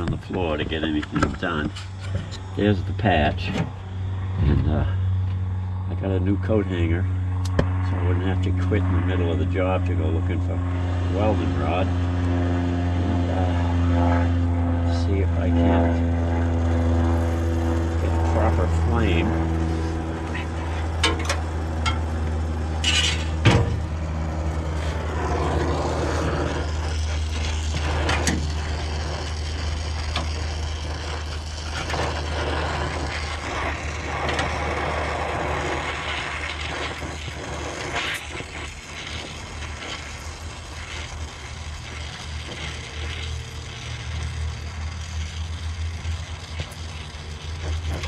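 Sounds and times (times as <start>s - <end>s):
steady low hum: 0.0s - 48.0s
welding torch flame hissing: 0.0s - 48.0s.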